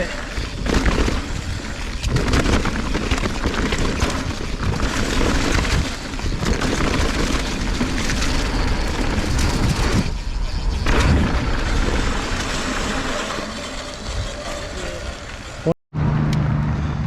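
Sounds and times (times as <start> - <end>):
wind buffeting microphone: 0.0 - 15.6
mountain bike rattling over rocks: 0.0 - 15.7.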